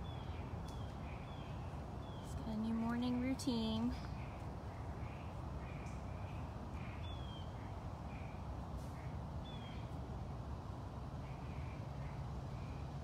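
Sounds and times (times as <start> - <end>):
birds calling: 0.0 - 10.1, 11.0 - 13.0.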